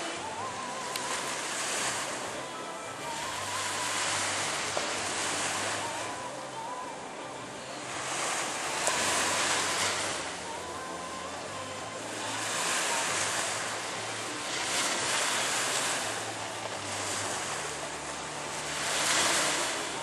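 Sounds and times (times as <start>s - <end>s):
waves washing in: 0.0s - 20.0s.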